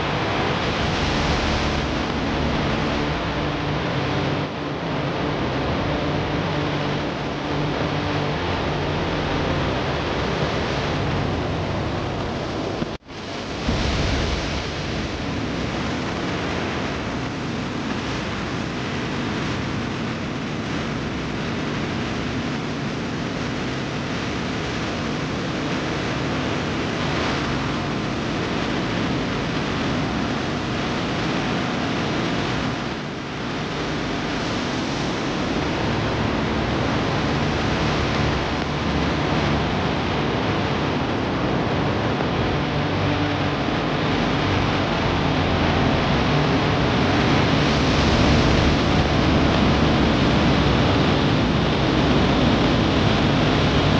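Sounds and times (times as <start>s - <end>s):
river rushing in flood: 0.0s - 53.9s.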